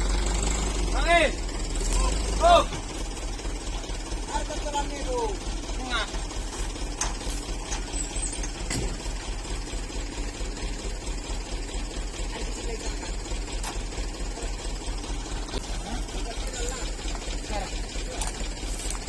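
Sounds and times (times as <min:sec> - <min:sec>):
diesel engine clattering: 0:00.0 - 0:19.0.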